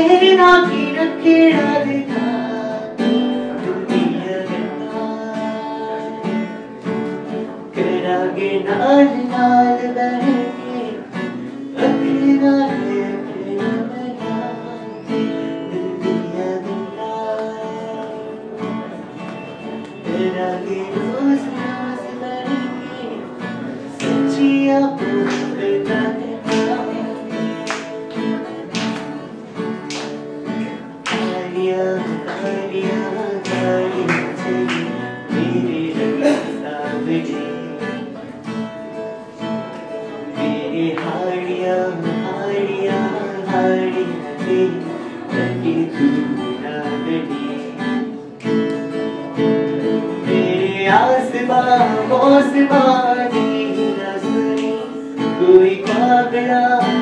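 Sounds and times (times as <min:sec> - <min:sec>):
acoustic guitar strumming: 0:00.0 - 0:57.0
man singing: 0:00.0 - 0:57.0.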